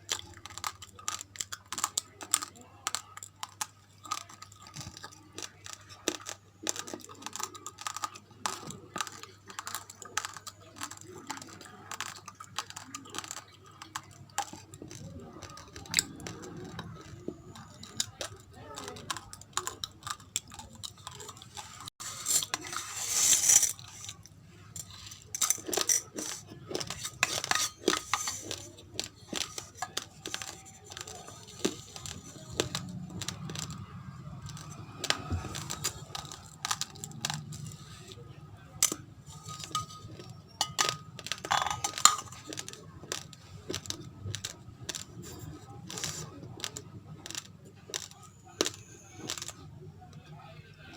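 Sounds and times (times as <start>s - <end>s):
raw rice crunching: 0.0s - 49.6s.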